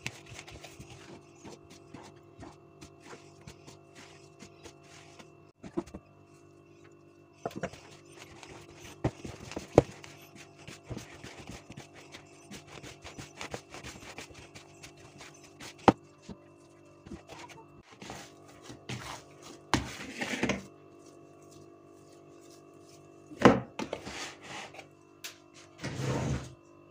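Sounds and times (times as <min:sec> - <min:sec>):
hands kneading dough: 0:00.0 - 0:24.4.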